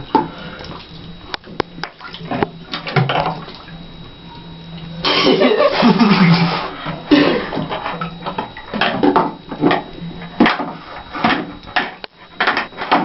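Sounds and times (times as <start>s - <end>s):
water sloshing in a bathtub: 0.0s - 13.0s.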